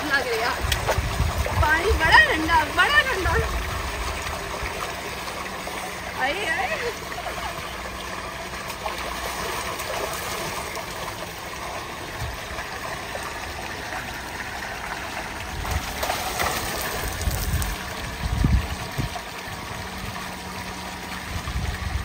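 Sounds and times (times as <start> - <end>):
water gushing into tank: 0.0 - 22.0.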